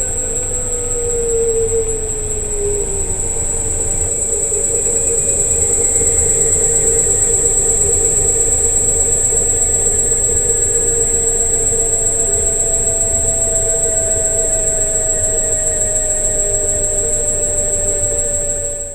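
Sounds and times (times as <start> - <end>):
electric motor whine: 0.0 - 18.9.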